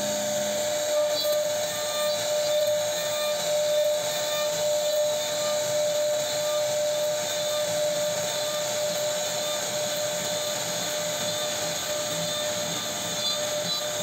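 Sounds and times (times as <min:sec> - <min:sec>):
bit cutting wood: 0:00.0 - 0:14.0
router spindle high whine: 0:00.0 - 0:14.0.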